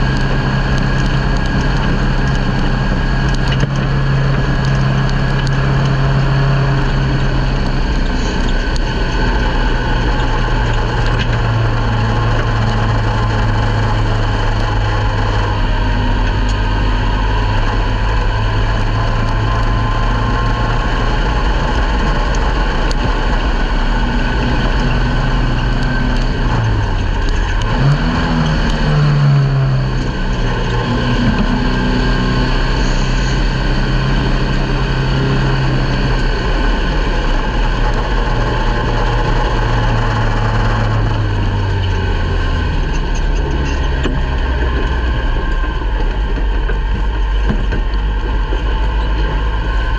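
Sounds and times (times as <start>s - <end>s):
race car engine from cockpit: 0.0s - 49.9s.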